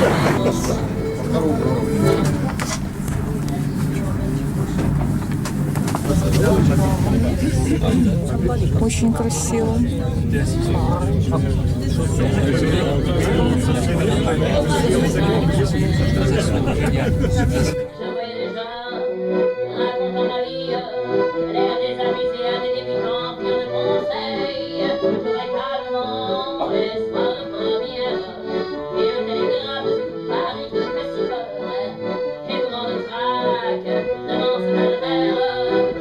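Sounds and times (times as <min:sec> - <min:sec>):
accordion chanson tune: 0:00.0 - 0:36.0.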